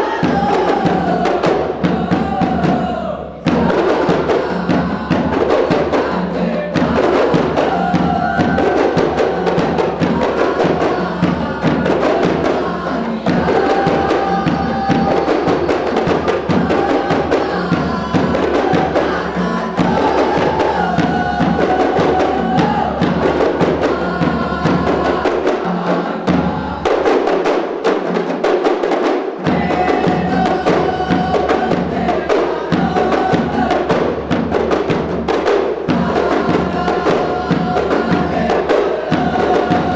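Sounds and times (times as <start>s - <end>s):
fast drum percussion: 0.0s - 39.9s.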